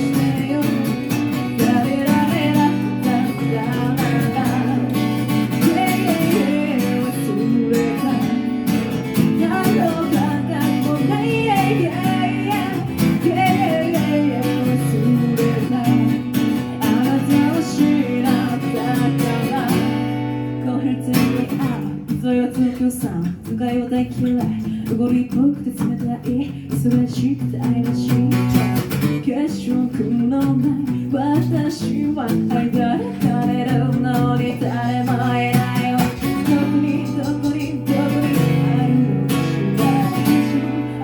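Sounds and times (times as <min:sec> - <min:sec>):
acoustic guitar strumming: 0:00.0 - 0:41.0
person singing: 0:00.0 - 0:41.0.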